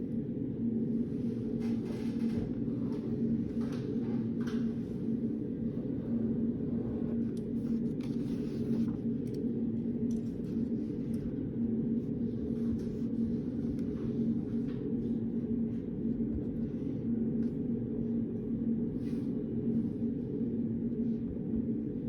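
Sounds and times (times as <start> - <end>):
low tonal hum: 0.0 - 22.0.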